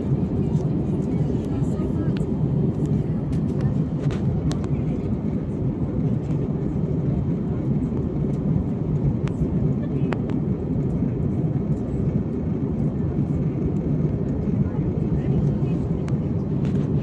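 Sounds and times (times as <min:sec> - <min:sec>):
airplane cabin low roar: 0:00.0 - 0:17.0.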